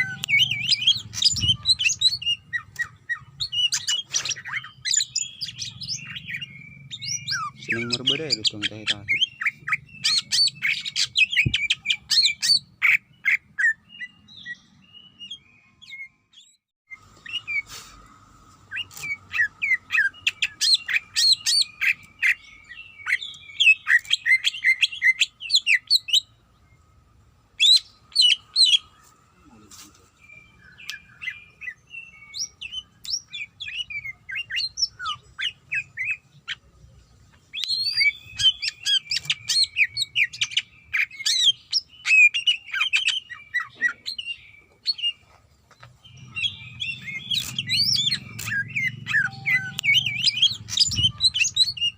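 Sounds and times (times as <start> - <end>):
bird singing high chirps and trills: 0.0 - 51.9.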